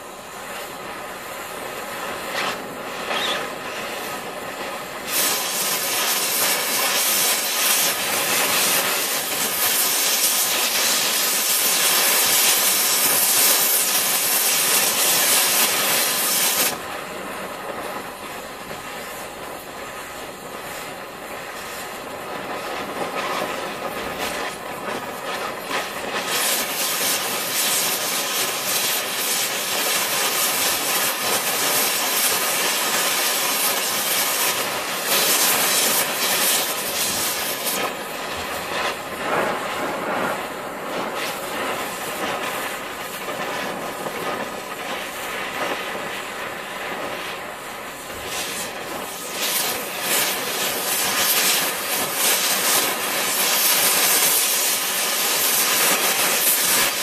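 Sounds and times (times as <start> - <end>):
gas torch flame hissing: 0.0 - 57.0.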